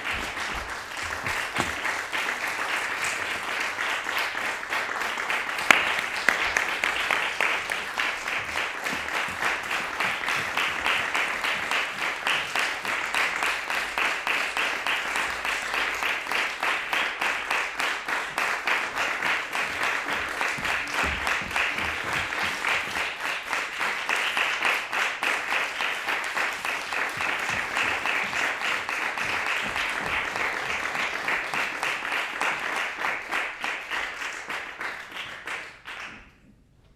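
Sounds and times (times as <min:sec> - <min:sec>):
audience applauding: 0:00.0 - 0:36.3.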